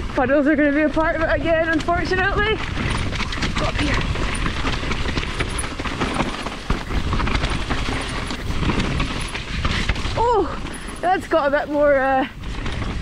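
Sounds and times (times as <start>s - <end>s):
bike rattling over bumps: 0.0s - 13.0s
tyres rolling over dirt: 0.0s - 13.0s
wind rumble on microphone: 0.0s - 13.0s.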